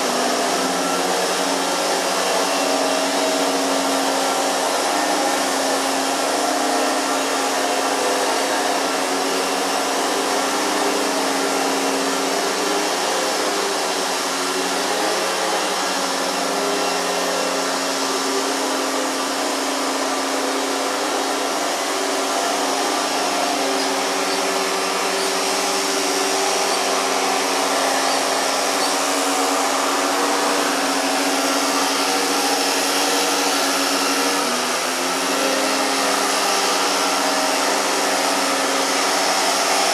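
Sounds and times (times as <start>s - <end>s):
motor-driven machine humming: 0.0s - 39.9s.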